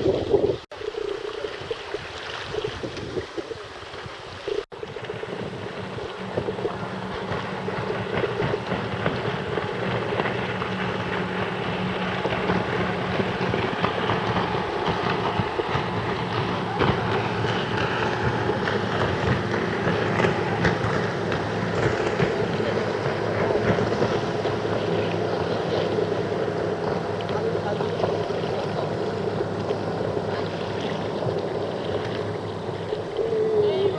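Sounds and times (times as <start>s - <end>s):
water noise: 0.0s - 33.9s
wind on microphone: 0.0s - 33.9s.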